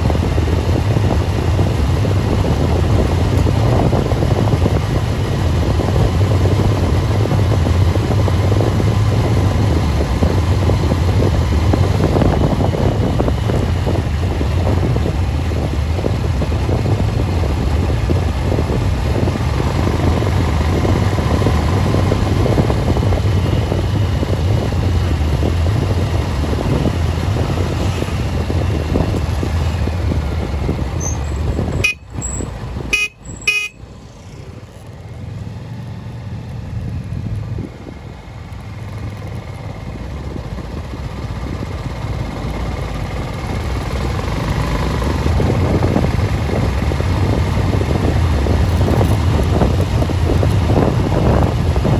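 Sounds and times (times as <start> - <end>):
rushing wind: 0.0 - 51.9
vehicle engine hum: 0.0 - 51.9.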